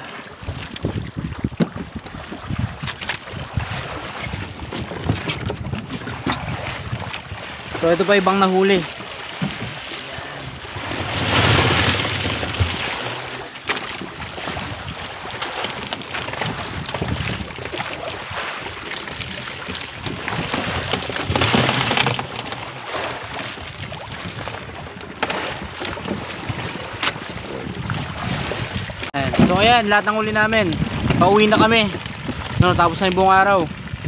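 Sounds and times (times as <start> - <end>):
wind buffeting microphone: 0.0 - 13.4, 14.0 - 22.4, 23.1 - 34.0
sea water sloshing: 0.0 - 34.0.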